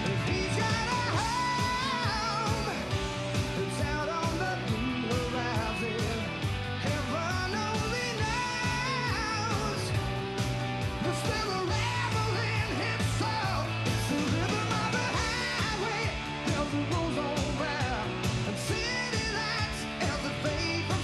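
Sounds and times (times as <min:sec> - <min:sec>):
rock song with guitar: 0:00.0 - 0:21.0.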